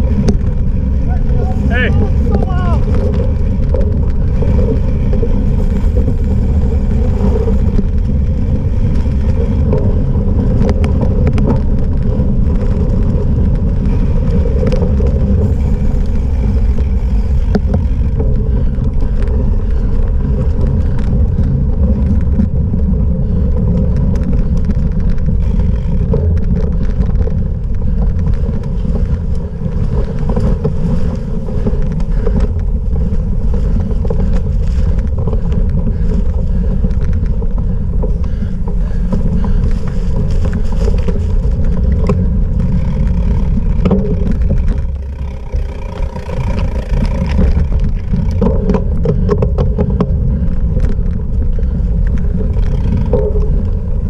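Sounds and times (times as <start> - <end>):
bike rattling over rough ground: 0.0 - 54.0
wind rushing over microphone: 0.0 - 54.0.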